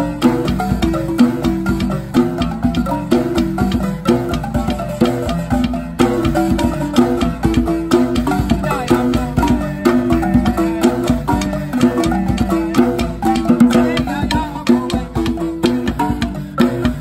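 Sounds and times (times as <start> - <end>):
djembe drum: 0.0 - 17.0
wooden xylophones playing: 0.0 - 17.0.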